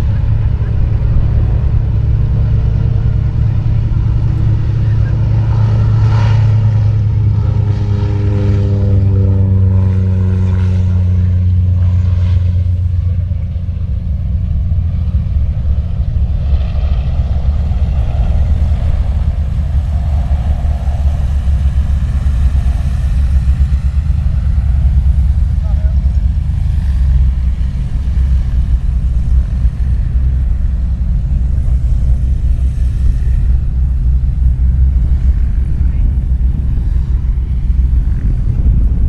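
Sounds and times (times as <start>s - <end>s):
propeller plane engine droning: 0.0s - 39.0s.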